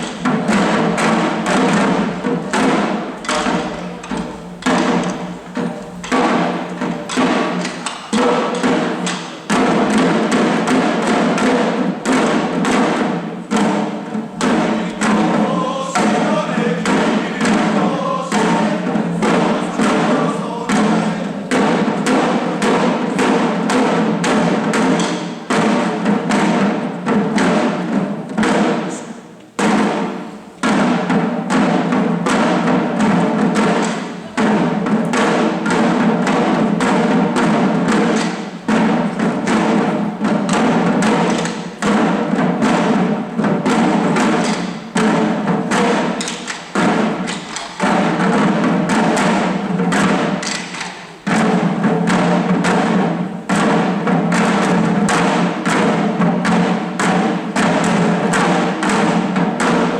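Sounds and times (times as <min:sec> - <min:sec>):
taiko drums beating: 0:00.0 - 0:59.9.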